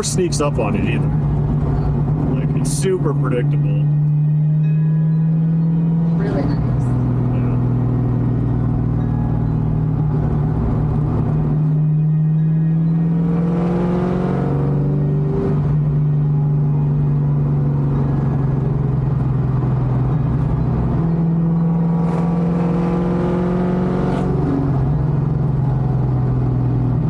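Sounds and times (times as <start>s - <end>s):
car engine and exhaust: 0.0s - 27.0s
road noise: 0.0s - 27.0s.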